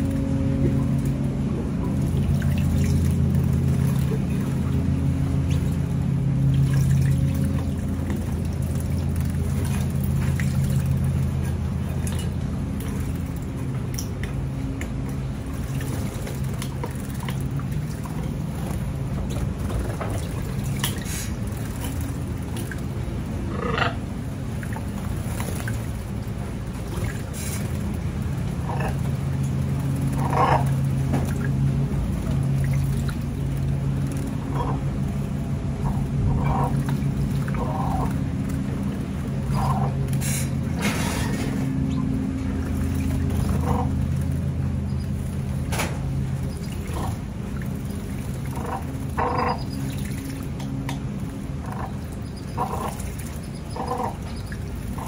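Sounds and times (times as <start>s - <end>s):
birds splashing in water: 0.0s - 55.0s
steady low hum: 0.0s - 55.0s.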